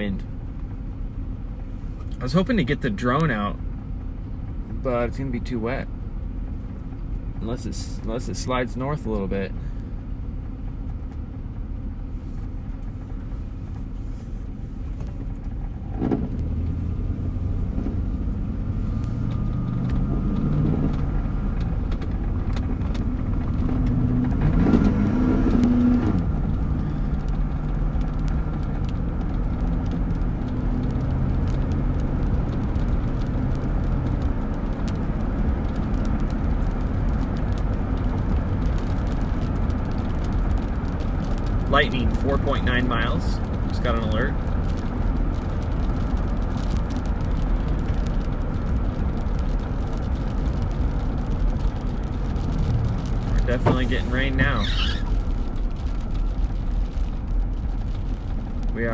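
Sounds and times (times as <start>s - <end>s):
car engine from inside cabin: 0.0s - 58.9s.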